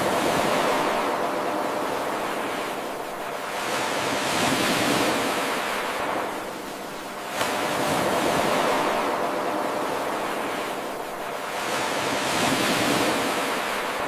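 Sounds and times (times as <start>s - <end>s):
ocean waves washing ashore: 0.0s - 14.0s.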